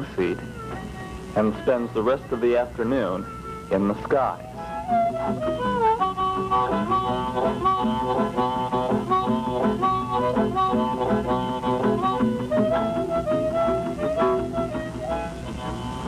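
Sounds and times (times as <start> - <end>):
instrumental background music: 0.0 - 16.0.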